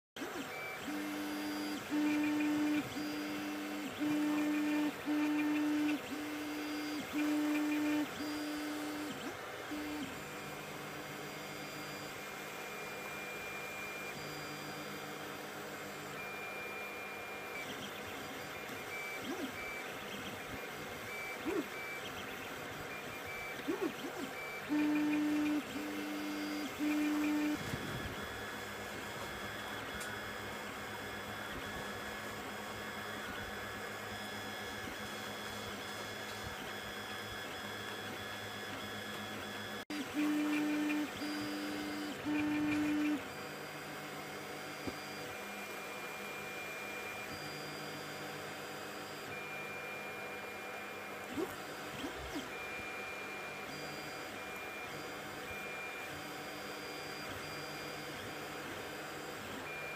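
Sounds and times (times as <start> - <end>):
printer stepper motors humming: 0.2 - 59.9.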